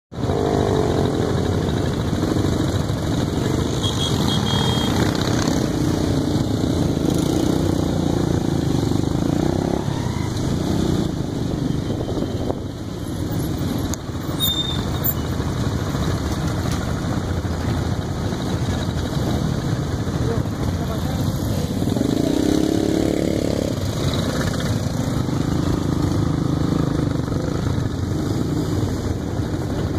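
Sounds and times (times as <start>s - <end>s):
motorcycle engines revving: 0.2s - 29.9s
motorcycle engines running: 0.2s - 29.9s.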